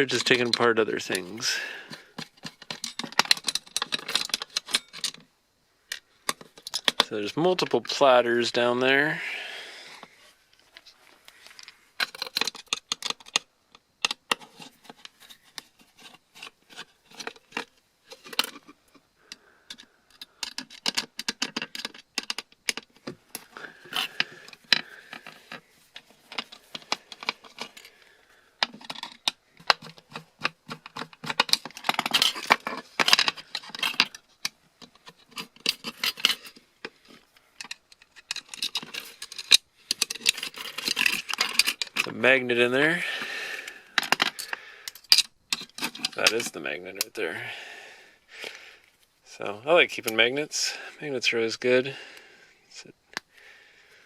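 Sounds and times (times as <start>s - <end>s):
small metal parts clicking and scraping: 0.0s - 5.3s, 5.9s - 8.9s, 9.9s - 47.5s.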